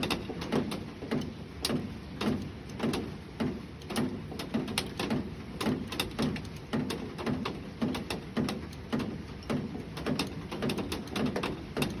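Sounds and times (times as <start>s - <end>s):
raindrops tapping on hard surface: 0.0s - 12.0s.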